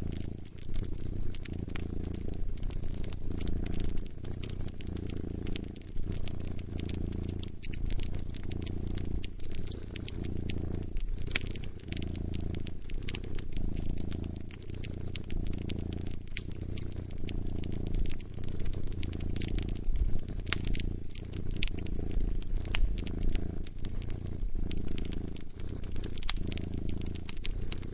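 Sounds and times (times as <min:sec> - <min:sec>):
cat purring: 0:00.0 - 0:27.9
wood fire crackling: 0:00.0 - 0:27.9.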